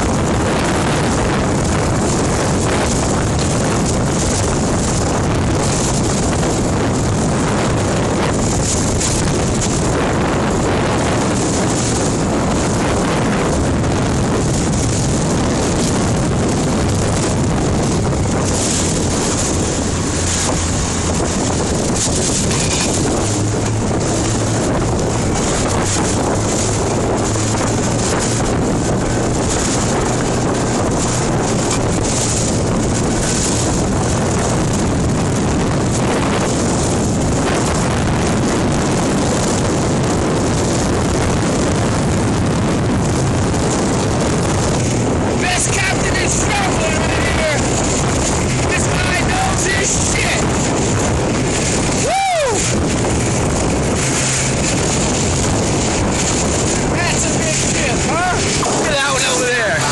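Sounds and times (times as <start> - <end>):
boat motor hum: 0.0 - 59.9
water rushing off hull: 0.0 - 59.9
wind buffeting microphone: 0.0 - 59.9.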